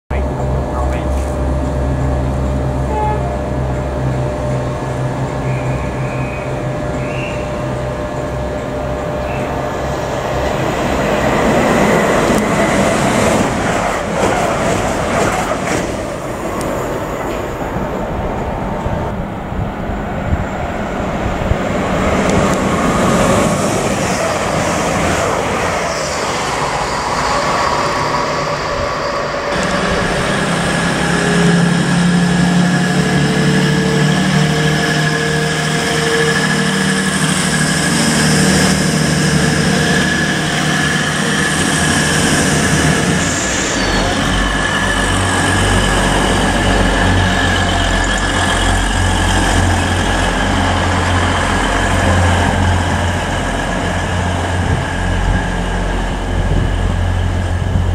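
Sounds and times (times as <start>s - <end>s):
diesel train engine hum: 0.1s - 57.9s
train rumbling past: 0.1s - 57.9s.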